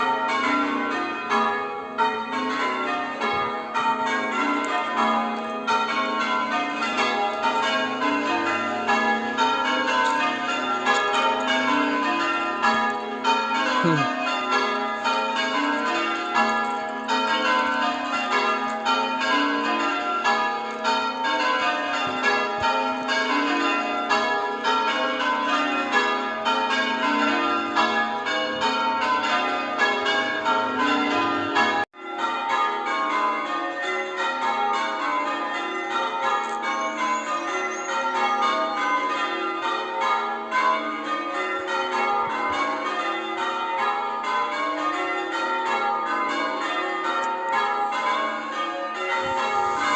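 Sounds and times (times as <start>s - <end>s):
church bells ringing: 0.0s - 49.9s.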